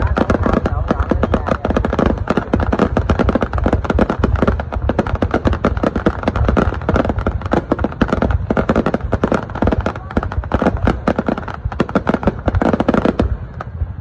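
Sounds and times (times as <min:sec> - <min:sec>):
fireworks bangs and crackles: 0:00.0 - 0:14.0
low rumble: 0:00.0 - 0:14.0.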